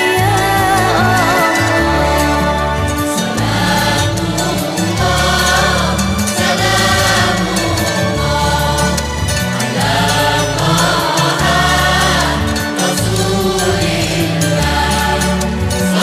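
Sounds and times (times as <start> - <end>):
deep held bass notes: 0.0 - 16.0
group singing devotional song: 0.0 - 16.0.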